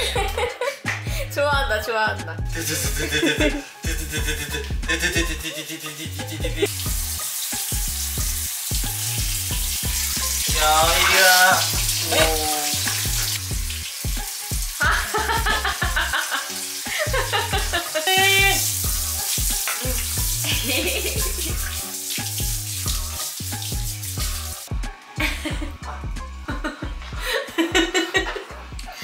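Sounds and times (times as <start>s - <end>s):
background music with low beat: 0.0s - 16.3s, 16.9s - 29.0s
water running from a hand shower: 2.4s - 29.0s.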